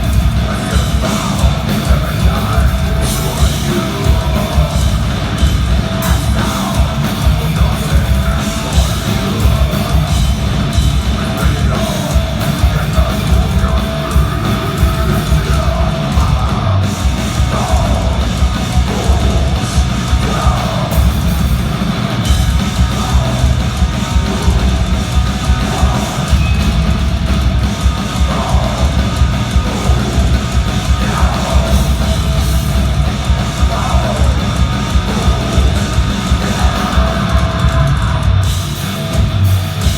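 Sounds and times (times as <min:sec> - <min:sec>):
dense drumming: 0:00.0 - 0:39.9
distorted guitars: 0:00.0 - 0:39.9
heavy metal band playing live: 0:00.0 - 0:39.9.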